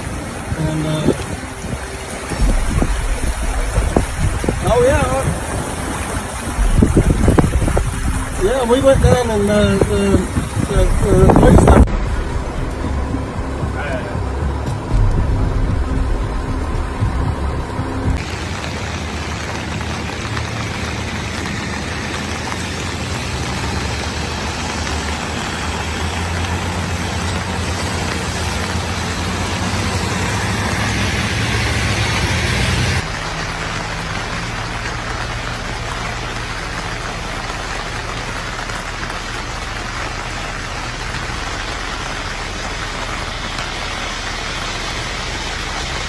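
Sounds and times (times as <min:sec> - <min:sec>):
rain hiss: 0:00.0 - 0:46.0
vehicle engine hum: 0:00.0 - 0:46.0.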